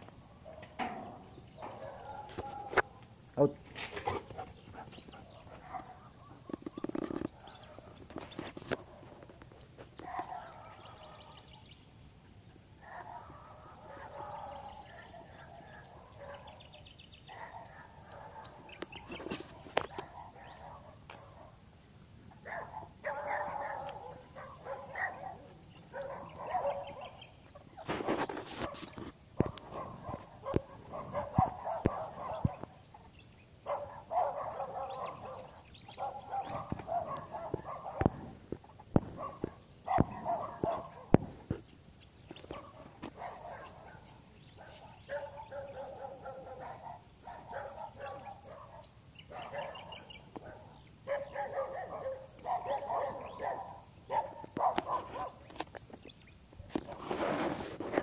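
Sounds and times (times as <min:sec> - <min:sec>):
dogs barking: 0:00.0 - 0:21.6, 0:22.3 - 0:41.7, 0:42.3 - 0:55.9, 0:56.7 - 0:58.0.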